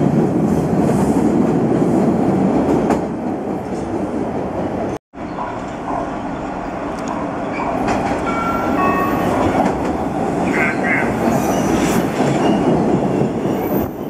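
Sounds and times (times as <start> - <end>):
subway train pulling out: 0.0 - 14.0
train rail noise: 0.0 - 14.0.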